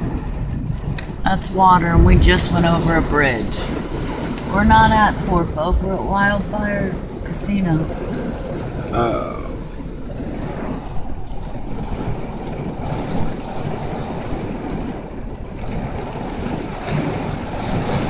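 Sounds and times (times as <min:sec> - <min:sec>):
rain beating on a car: 0:00.0 - 0:18.0.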